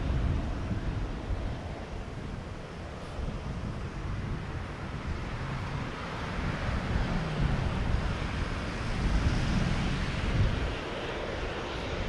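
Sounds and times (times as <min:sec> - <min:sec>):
jet engines rumbling at takeoff: 0:00.0 - 0:12.0
wind buffeting microphone: 0:00.0 - 0:12.0.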